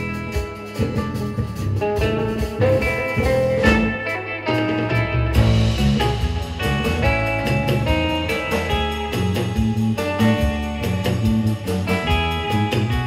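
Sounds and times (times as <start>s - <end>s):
acoustic rhythm guitar: 0.0s - 13.0s
bass guitar: 0.0s - 13.0s
drums: 0.0s - 13.0s
lead electric guitar melody: 0.0s - 13.0s.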